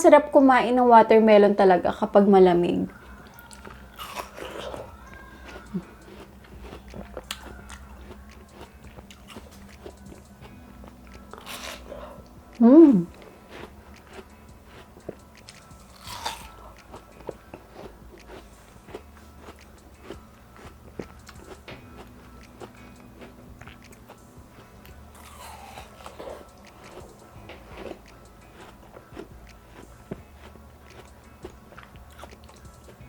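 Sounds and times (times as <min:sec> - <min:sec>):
chewing watermelon: 0:02.9 - 0:12.4, 0:13.0 - 0:33.0.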